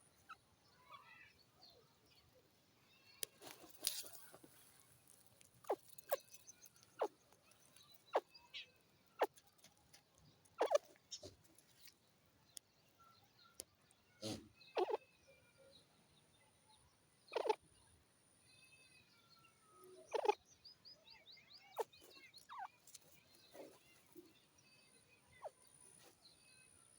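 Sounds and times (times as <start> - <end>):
faint thin bird chirps: 0.0 - 4.9, 5.6 - 26.9
francolin clucks and calls: 0.0 - 16.0, 16.8 - 26.9.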